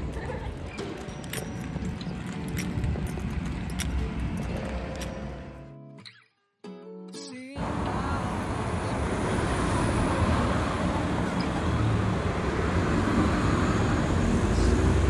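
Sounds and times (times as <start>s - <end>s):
road traffic rumble: 0.0s - 5.7s, 7.6s - 15.0s.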